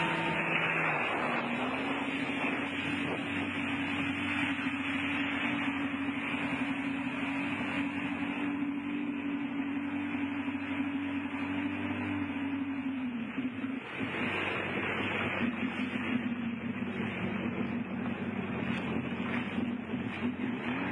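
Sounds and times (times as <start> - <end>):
jet ski engine running: 0.0 - 20.9.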